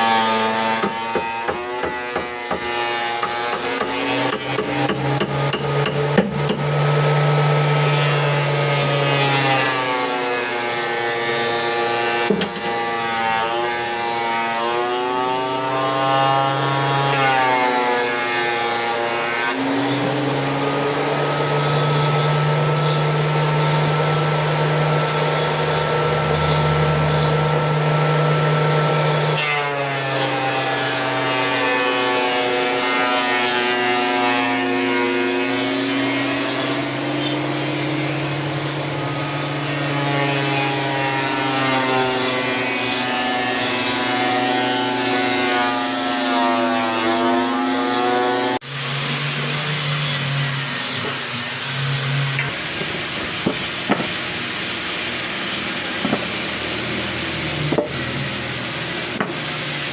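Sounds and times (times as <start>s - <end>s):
power tool motor running: 0.0s - 59.9s.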